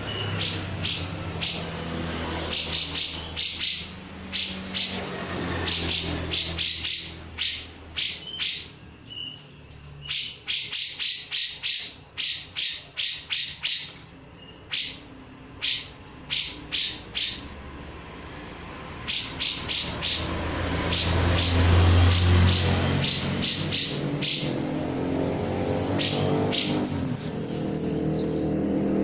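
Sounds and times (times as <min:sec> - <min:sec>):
bulbul calling: 0:00.0 - 0:01.7, 0:02.4 - 0:17.6, 0:19.0 - 0:24.7, 0:25.4 - 0:28.5.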